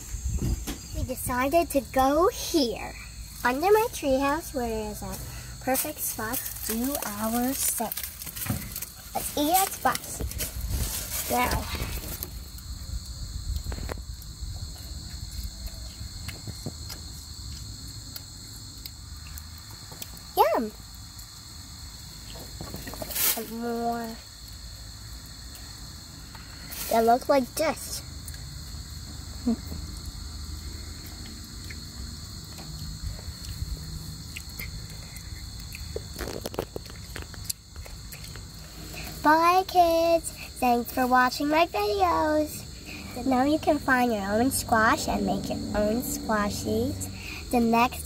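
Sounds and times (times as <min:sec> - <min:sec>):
crickets chirping: 0:00.0 - 0:48.0
high-pitched insect chorus: 0:00.0 - 0:48.0.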